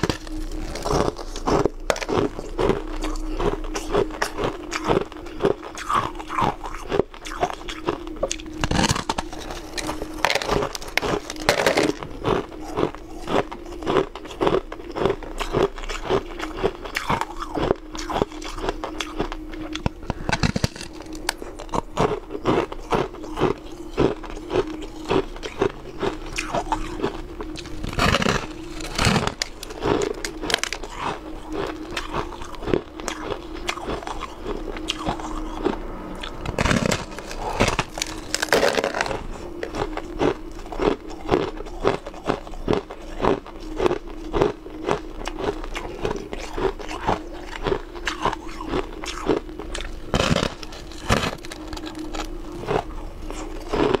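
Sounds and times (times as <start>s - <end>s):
ice being chewed crunching: 0.0s - 54.0s
steady hum: 0.0s - 54.0s.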